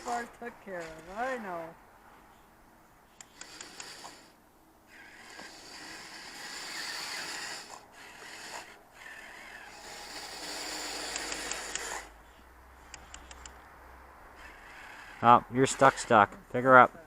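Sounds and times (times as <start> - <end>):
model vehicle electric motor and tracks: 0.0 - 1.7, 3.1 - 13.6, 14.3 - 17.0.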